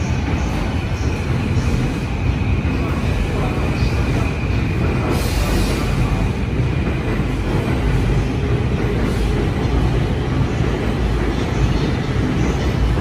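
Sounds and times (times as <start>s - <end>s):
low rumble of train: 0.0s - 13.0s.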